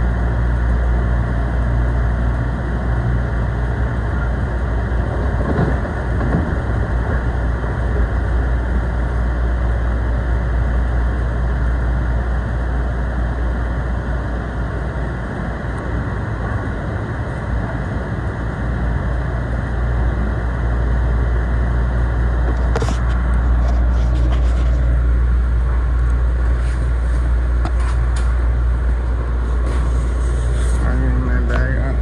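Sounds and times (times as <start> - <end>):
train rumble from inside: 0.0 - 32.0.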